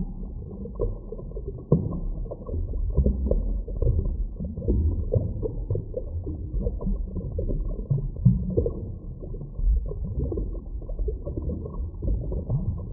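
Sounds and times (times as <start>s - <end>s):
underwater flowing water rumble: 0.0s - 12.9s
water bubbling and gurgling: 0.0s - 12.9s.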